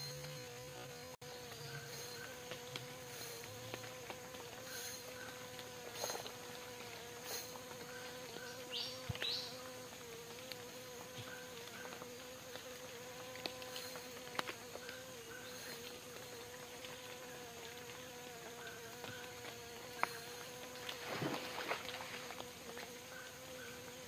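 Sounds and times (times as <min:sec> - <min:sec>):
flying insect buzzing: 0:00.0 - 0:24.0.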